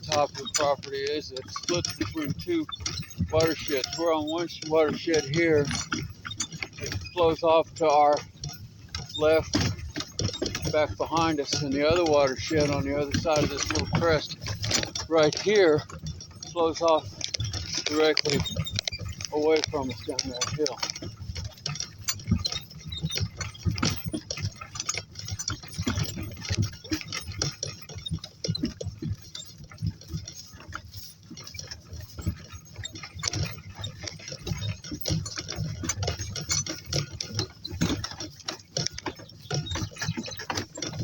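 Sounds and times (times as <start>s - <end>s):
donkey footfalls: 0.0s - 41.0s
harness tack clinking: 0.0s - 41.0s.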